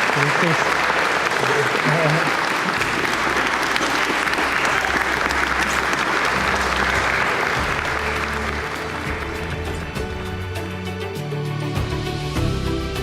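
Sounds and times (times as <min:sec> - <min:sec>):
congregation applauding: 0:00.0 - 0:12.5
music playing: 0:00.0 - 0:13.0.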